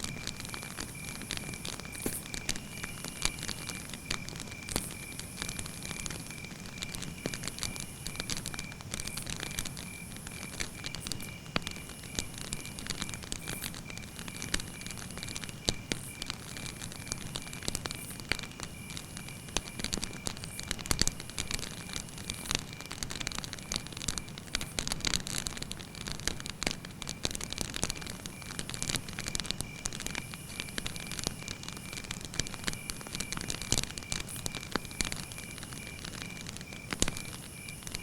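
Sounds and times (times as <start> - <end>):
campfire crackling and popping: 0.0 - 38.0
low hiss of flame: 0.1 - 38.0.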